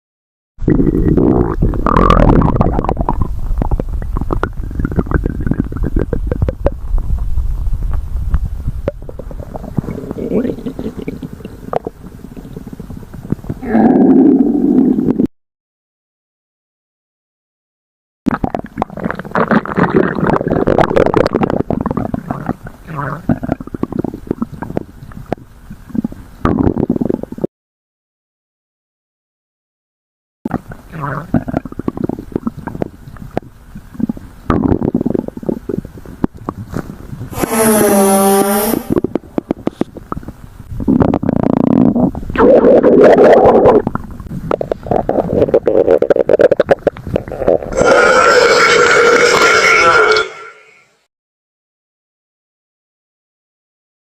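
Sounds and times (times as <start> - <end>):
stomach growling: 0.6 - 15.3, 18.3 - 27.5, 30.5 - 50.8.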